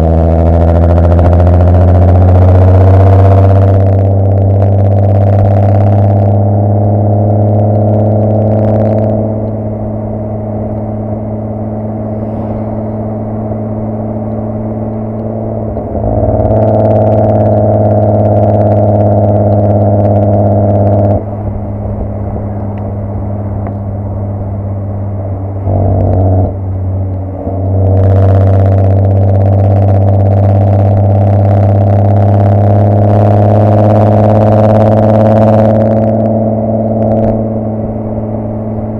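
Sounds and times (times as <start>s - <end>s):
loud car exhaust while driving: 0.0s - 38.9s.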